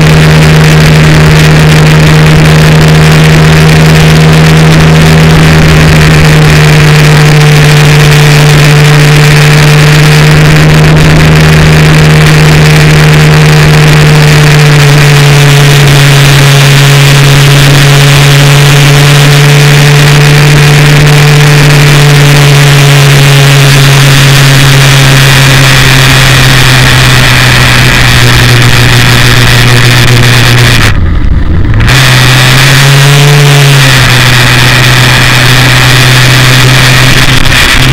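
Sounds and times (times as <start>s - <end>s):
motorcycle engine cruising: 0.0s - 37.9s
wind and road rush: 0.0s - 37.9s.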